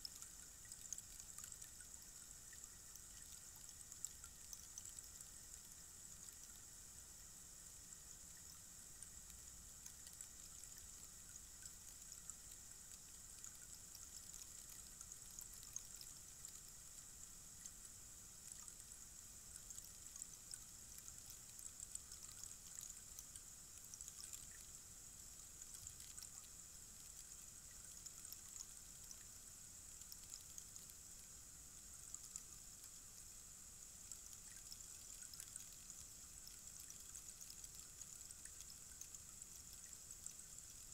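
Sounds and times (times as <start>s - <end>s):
rainstick trickling hiss: 0.0s - 40.9s.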